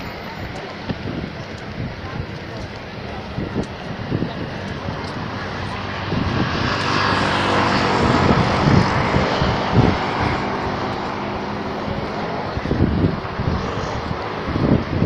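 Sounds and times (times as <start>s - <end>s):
broad rushing noise: 0.0s - 15.0s
engine drone: 0.0s - 15.0s.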